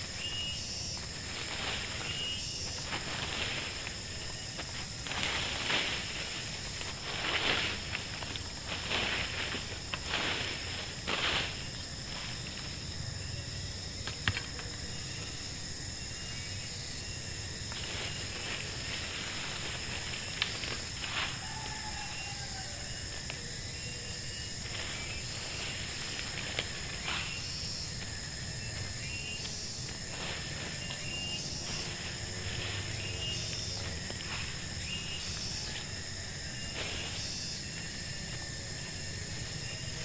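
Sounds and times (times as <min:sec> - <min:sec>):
high-pitched insect drone: 0:00.0 - 0:40.0.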